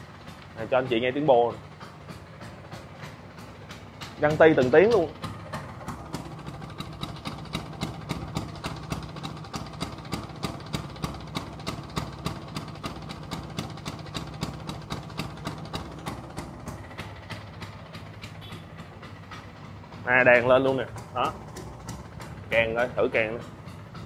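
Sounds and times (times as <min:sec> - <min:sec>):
two-stroke engine idling: 0:00.0 - 0:24.0.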